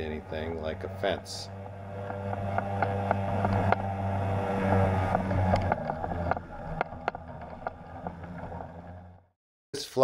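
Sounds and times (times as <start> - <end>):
two-stroke engine running: 0.0 - 9.3.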